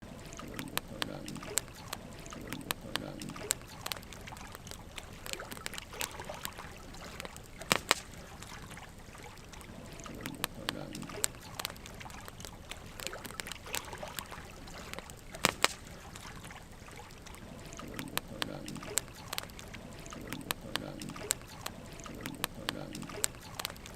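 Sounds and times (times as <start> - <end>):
wood fire crackling and popping: 0.1 - 23.9.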